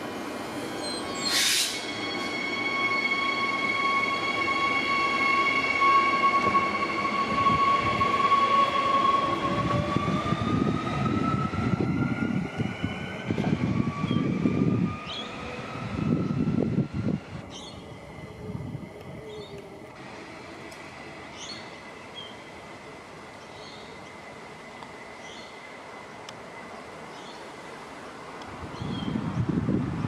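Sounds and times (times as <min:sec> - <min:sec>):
electric train whine: 0:00.0 - 0:30.0.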